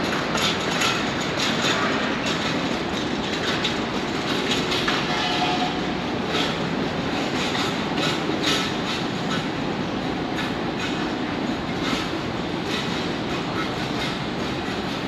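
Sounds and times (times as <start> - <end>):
train rumbling on rails: 0.0 - 15.0
wheels clicking over rail joints: 0.0 - 15.0.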